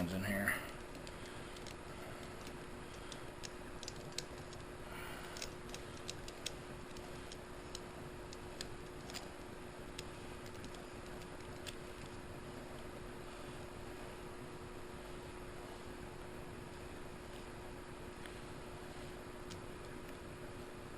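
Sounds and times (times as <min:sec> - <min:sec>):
faint hum and hiss: 0:00.0 - 0:20.9.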